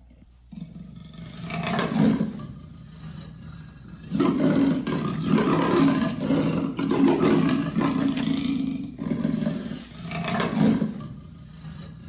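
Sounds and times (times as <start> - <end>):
leopard roaring: 0.5 - 12.0.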